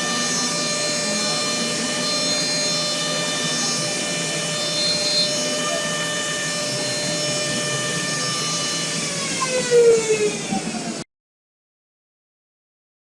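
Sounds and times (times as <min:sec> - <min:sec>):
machining spindle whining: 0:00.0 - 0:11.0.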